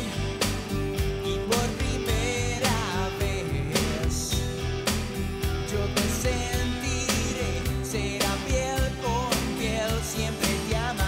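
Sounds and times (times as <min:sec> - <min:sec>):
man singing: 0:00.0 - 0:00.3, 0:01.2 - 0:04.7, 0:05.6 - 0:11.0
bass guitar: 0:00.0 - 0:11.0
drum kit: 0:00.0 - 0:11.0
electric guitar: 0:00.0 - 0:11.0.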